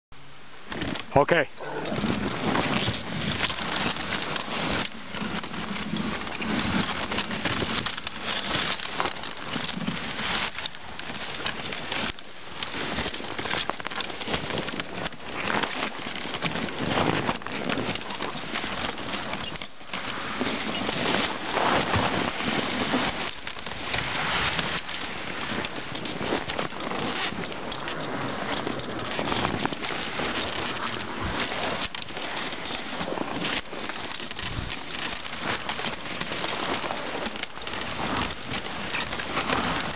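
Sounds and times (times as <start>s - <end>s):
sled runners scraping over snow: 0.6s - 39.9s.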